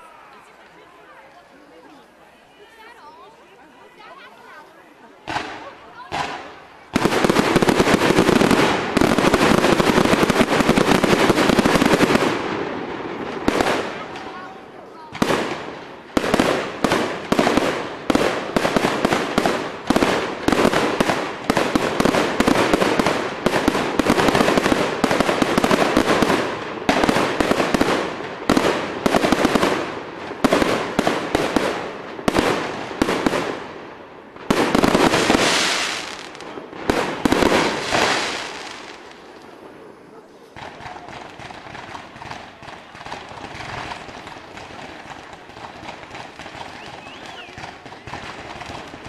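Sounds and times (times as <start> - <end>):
fireworks bangs and crackles: 4.1 - 49.0.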